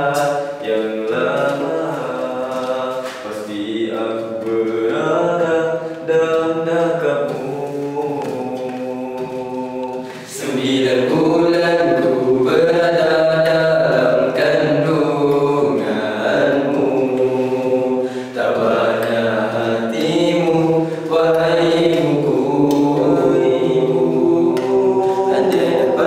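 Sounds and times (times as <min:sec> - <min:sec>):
male vocal group singing: 0:00.0 - 0:26.0.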